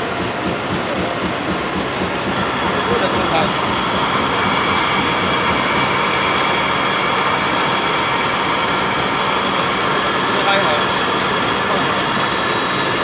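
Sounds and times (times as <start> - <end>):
low machine hum: 0.0 - 13.0
machine hissing: 0.0 - 13.0.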